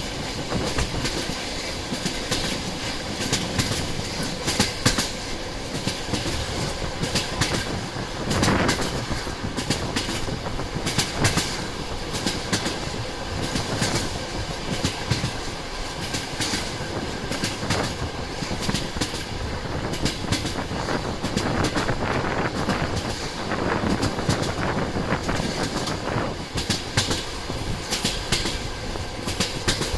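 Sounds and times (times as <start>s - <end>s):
train wheels clattering over rail joints: 0.0s - 29.9s.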